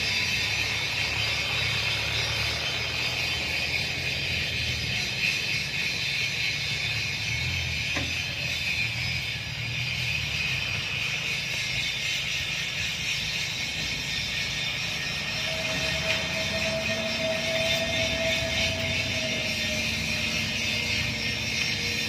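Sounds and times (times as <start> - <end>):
constant high whine: 0.0 - 22.0
heavy diesel machinery running: 0.0 - 22.0.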